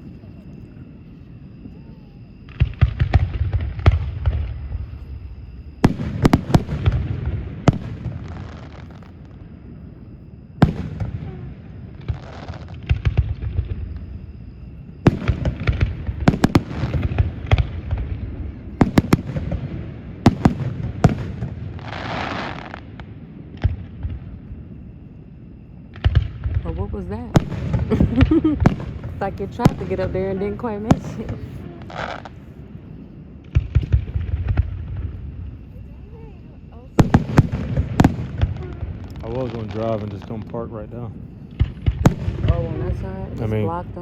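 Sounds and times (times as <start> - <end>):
fireworks bursting: 1.6 - 24.5, 25.9 - 44.0.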